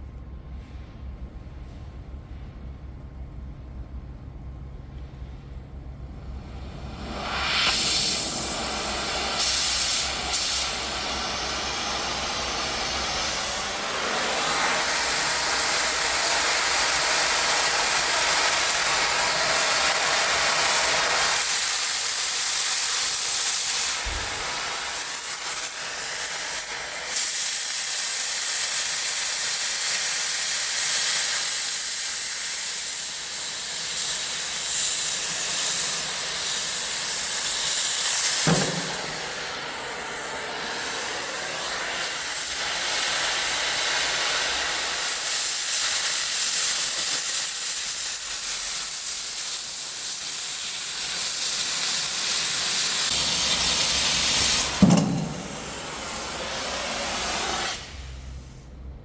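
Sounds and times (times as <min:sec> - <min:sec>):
cutting torch hissing: 0:06.2 - 0:58.7.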